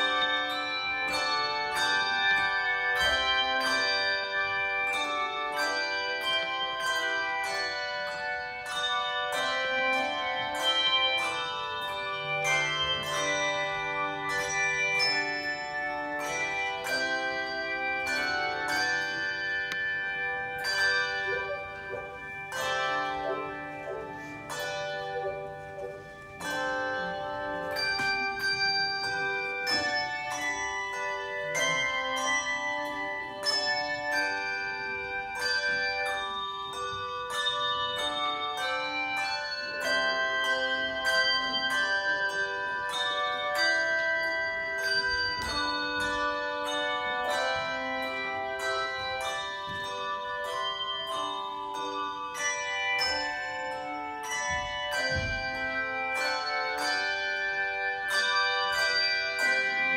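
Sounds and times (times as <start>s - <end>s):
handbell choir playing: 0.0s - 59.9s.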